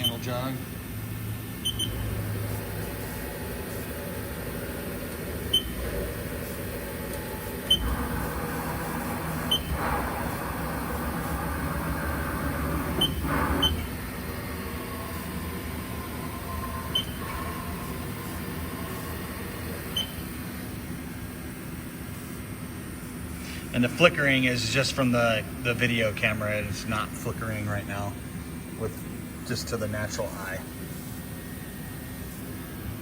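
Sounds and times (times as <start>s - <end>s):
axis drives whirring: 0.0s - 33.0s
steady machine whine: 0.0s - 33.0s.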